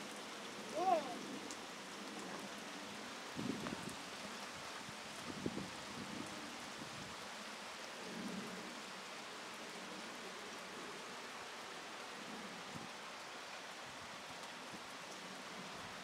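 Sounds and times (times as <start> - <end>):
rain pattering on ground: 0.0 - 16.0.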